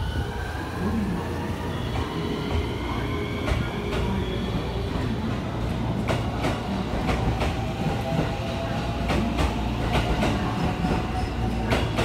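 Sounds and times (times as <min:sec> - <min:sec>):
train rolling rumble: 0:00.0 - 0:12.0.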